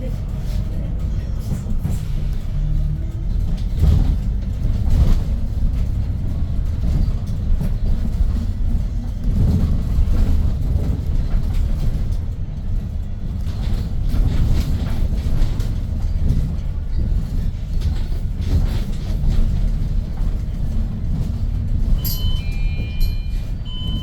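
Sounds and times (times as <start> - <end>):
bus engine rumble: 0.0 - 24.0
road noise: 0.0 - 24.0.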